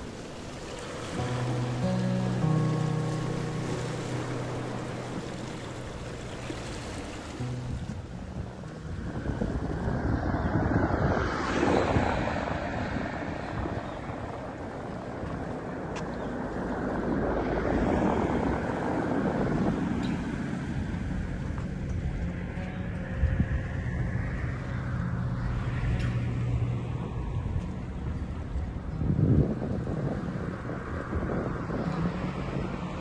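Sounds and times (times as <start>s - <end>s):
wind gusting over microphone: 0.0s - 33.0s
low engine drone: 1.2s - 29.4s.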